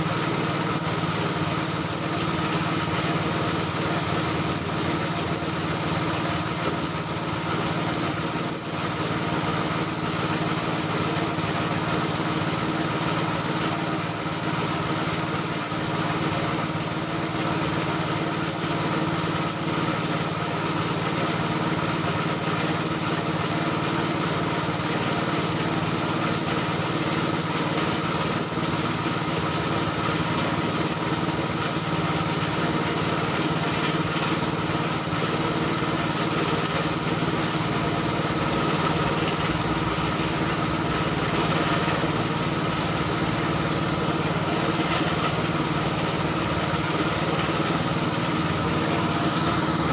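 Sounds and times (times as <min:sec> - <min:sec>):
air compressor motor hum: 0:00.0 - 0:49.9
hiss of air: 0:00.5 - 0:49.9.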